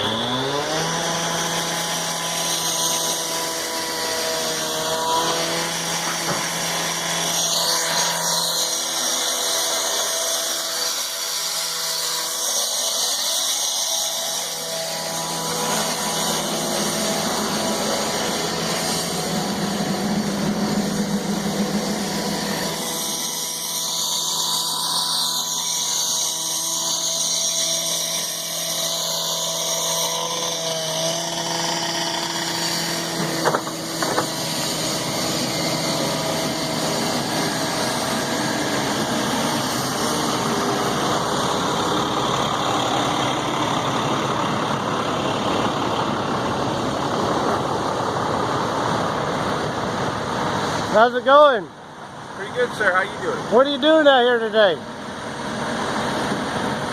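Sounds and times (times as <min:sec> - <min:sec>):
construction machinery engine running: 0:00.0 - 0:56.9.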